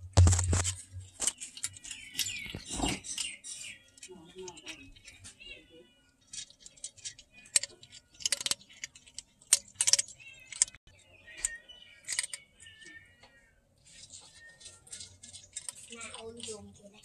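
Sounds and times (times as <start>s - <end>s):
cat crunching kibble in a jar: 0.0s - 5.2s, 6.2s - 10.8s, 12.0s - 12.8s, 13.8s - 17.0s.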